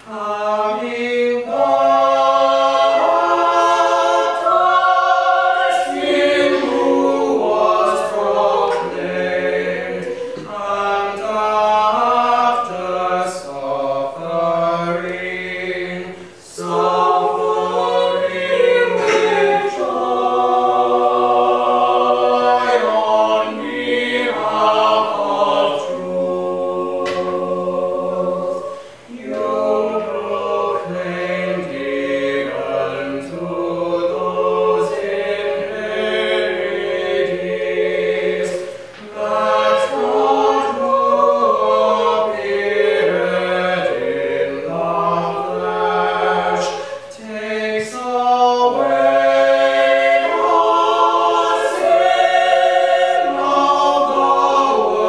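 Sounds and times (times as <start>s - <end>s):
vocal ensemble singing chords: 0.0s - 55.0s.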